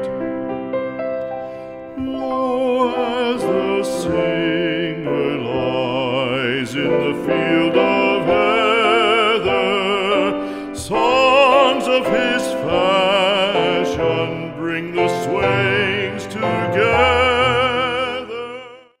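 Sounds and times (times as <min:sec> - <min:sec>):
instrumental accompaniment: 0:00.0 - 0:18.8
solo voice singing with vibrato: 0:02.0 - 0:19.0.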